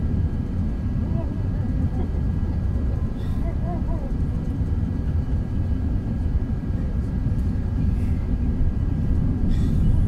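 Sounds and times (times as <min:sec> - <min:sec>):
airflow noise: 0:00.0 - 0:10.0
airplane cabin engine rumble: 0:00.0 - 0:10.0.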